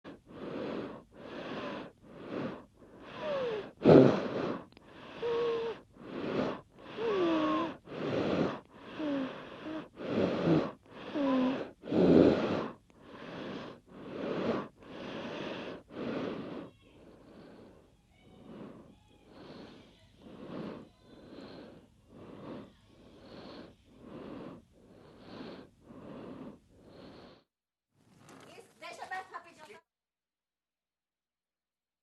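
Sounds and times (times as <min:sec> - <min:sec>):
person snoring with whistle: 0:00.4 - 0:27.4.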